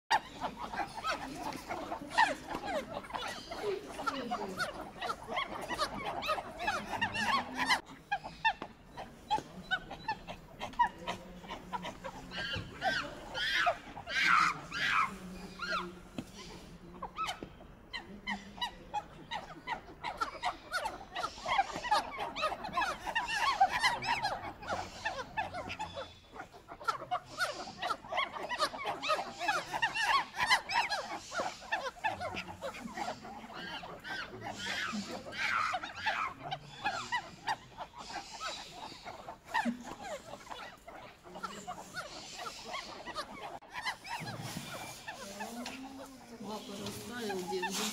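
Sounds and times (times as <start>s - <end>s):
monkeys squeaky chirps: 0.1s - 47.9s.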